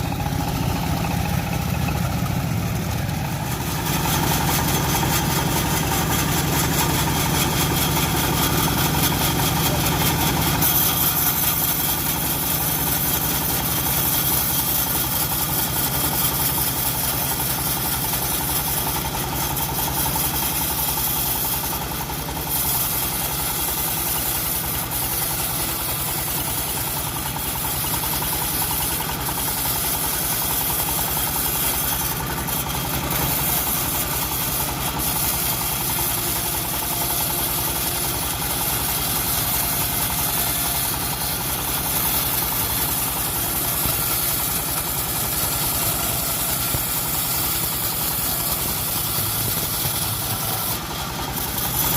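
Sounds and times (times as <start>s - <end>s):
constant high hiss: 0.0s - 51.9s
sawmill engine running: 0.0s - 51.9s.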